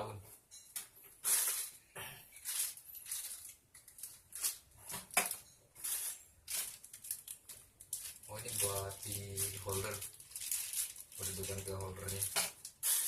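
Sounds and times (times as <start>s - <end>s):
packaging rustling and clicking: 2.4s - 13.0s.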